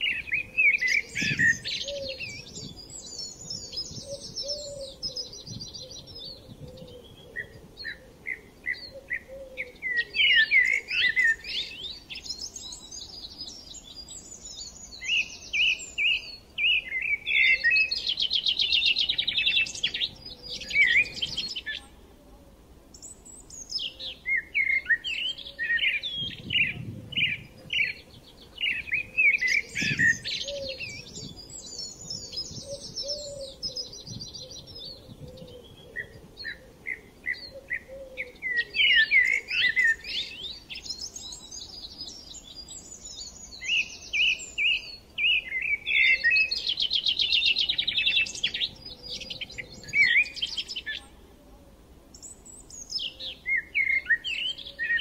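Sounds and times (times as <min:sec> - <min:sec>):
small birds chirping: 0:00.0 - 0:22.1, 0:22.9 - 0:51.4, 0:52.1 - 0:55.0.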